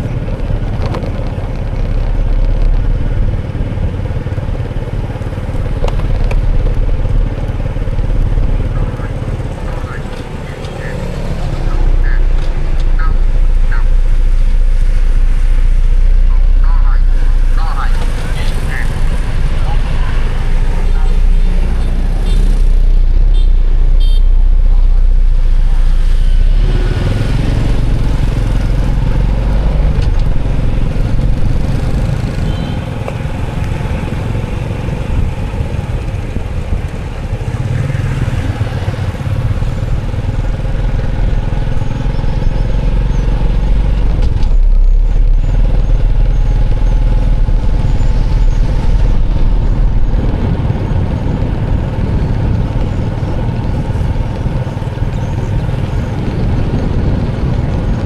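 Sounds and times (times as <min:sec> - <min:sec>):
motor vehicle rumbling: 0:00.0 - 0:58.0
road or wind noise: 0:00.0 - 0:58.0.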